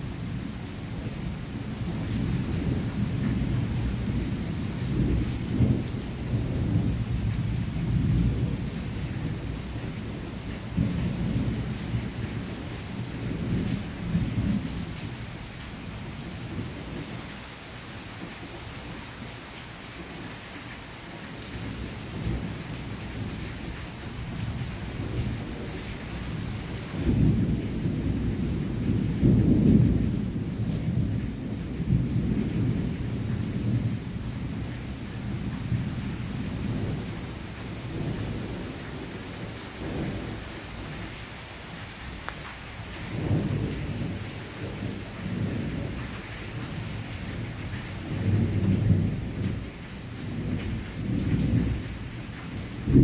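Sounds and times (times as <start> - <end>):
rain falling on foliage: 0.0 - 53.0.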